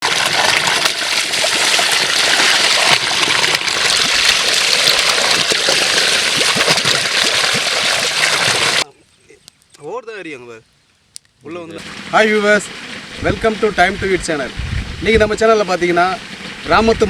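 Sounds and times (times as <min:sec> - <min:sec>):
water running and gurgling: 0:00.0 - 0:08.9, 0:11.8 - 0:17.0.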